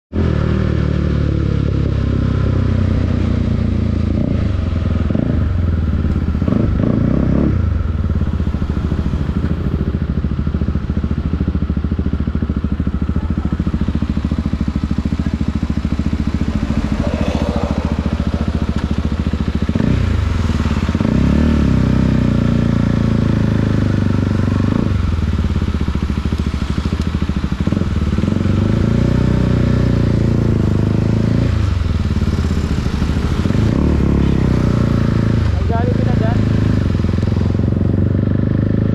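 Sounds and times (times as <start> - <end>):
motorcycle engine shifting gears: 0.1 - 38.9.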